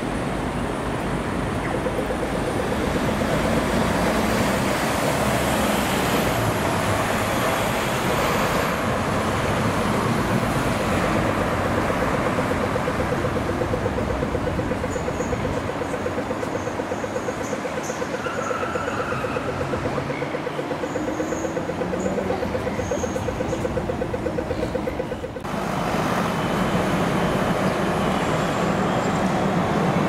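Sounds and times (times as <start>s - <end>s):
city street traffic: 0.0s - 30.0s
rapid even ticking: 0.3s - 25.6s.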